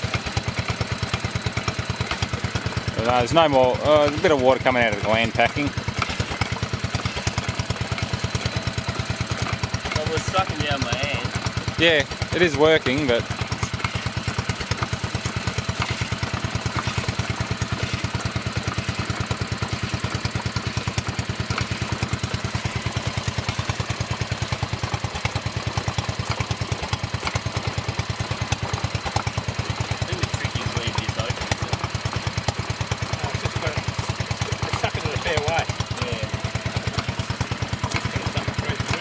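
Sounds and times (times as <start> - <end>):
single-cylinder engine running: 0.0 - 39.0.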